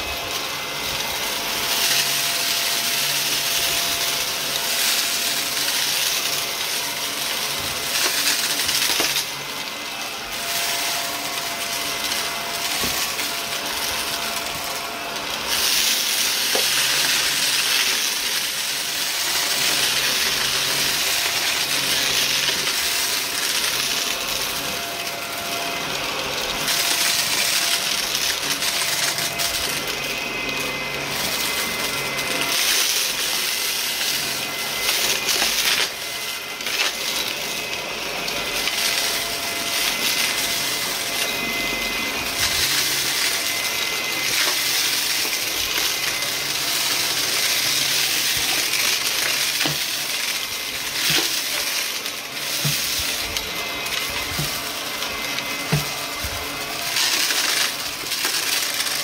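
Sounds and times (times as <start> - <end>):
vacuum cleaner running: 0.0 - 59.0
grit crackling in vacuum: 0.1 - 59.0.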